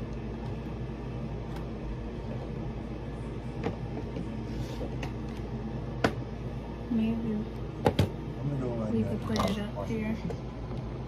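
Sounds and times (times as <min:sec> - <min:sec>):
low hum of room noise: 0:00.0 - 0:11.0.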